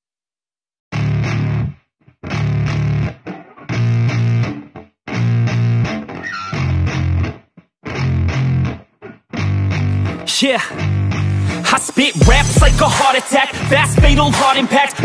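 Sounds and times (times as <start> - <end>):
heavy electric guitar and bass chords: 0.9 - 15.0.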